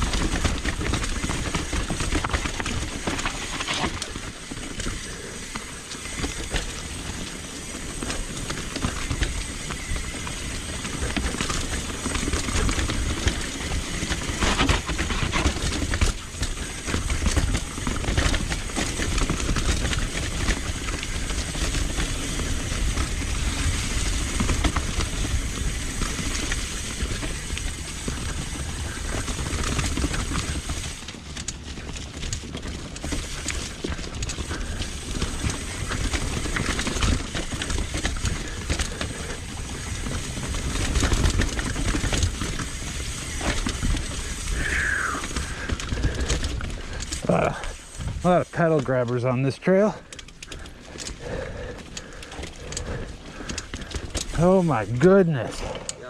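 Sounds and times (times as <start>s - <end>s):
bike knocking and rattling: 0.0s - 56.0s
bike tyres on dirt and stone: 0.0s - 56.0s.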